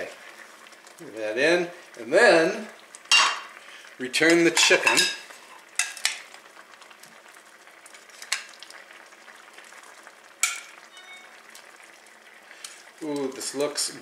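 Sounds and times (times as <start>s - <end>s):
sauce sizzling in pan: 0.0s - 14.0s.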